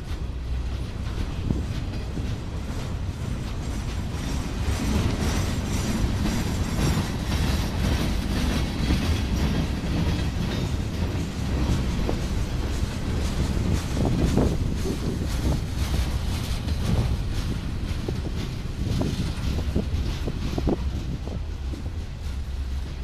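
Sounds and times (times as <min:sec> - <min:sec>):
clicking over rail joints: 0:00.0 - 0:23.0
train wheels rumbling on rails: 0:00.0 - 0:23.0.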